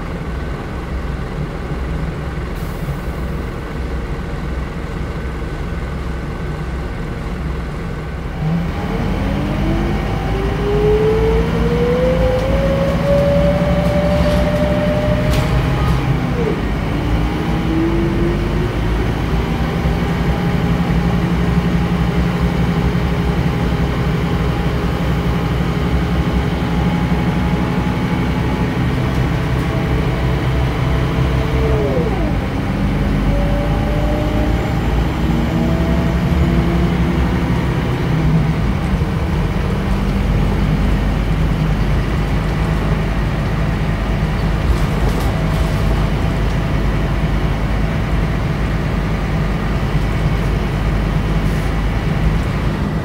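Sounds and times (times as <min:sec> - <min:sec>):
bus diesel engine: 0:00.0 - 0:53.0
road noise: 0:00.0 - 0:53.0.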